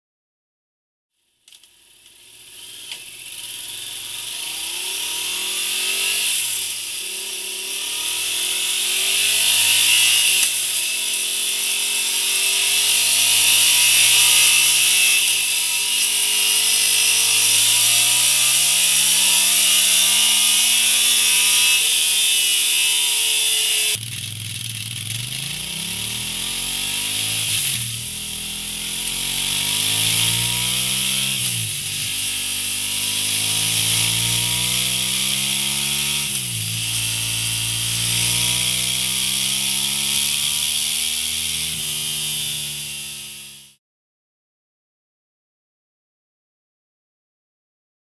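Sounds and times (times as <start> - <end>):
motorcycle engine revving: 1.8 - 43.8.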